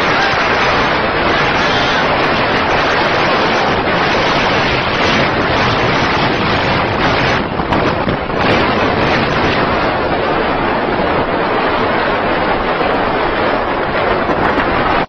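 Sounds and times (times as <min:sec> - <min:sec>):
vehicle noise: 0:00.0 - 0:15.0
wind roar on microphone: 0:00.0 - 0:15.0.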